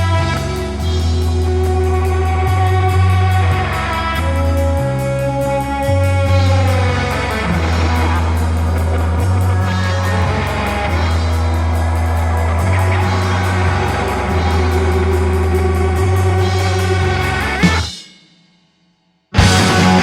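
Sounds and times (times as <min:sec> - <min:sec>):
rock music: 0:00.0 - 0:18.1, 0:19.4 - 0:20.0.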